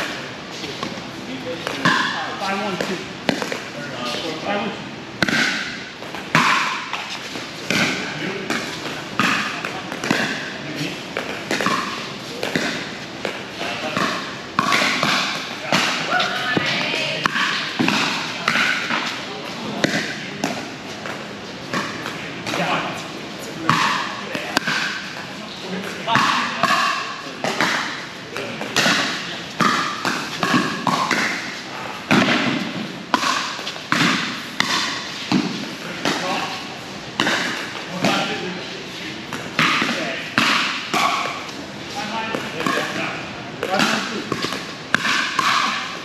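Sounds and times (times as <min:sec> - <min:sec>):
ball bouncing: 0:01.6 - 0:04.4, 0:05.2 - 0:22.9, 0:23.6 - 0:38.4, 0:39.3 - 0:46.0.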